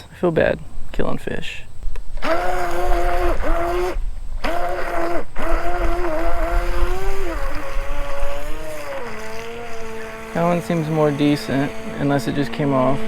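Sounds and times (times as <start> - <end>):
electric motor whining: 1.9 - 13.0.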